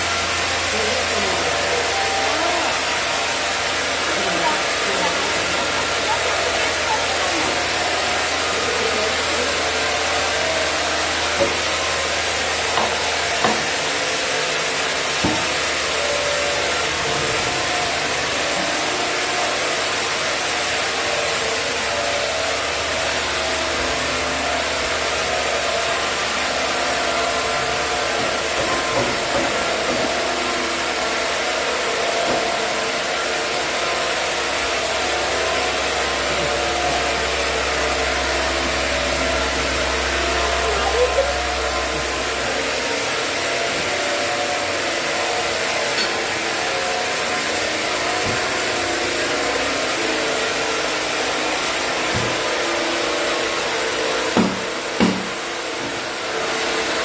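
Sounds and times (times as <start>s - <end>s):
sawmill saw cutting log: 0.0s - 57.0s.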